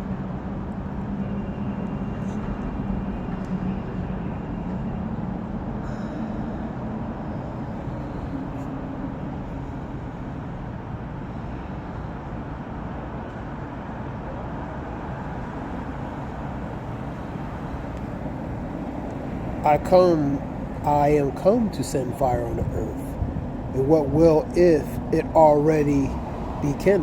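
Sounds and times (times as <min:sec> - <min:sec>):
faint hum: 0:00.0 - 0:13.6, 0:15.5 - 0:27.0
low rumble of running motor: 0:02.6 - 0:13.4, 0:15.4 - 0:27.0.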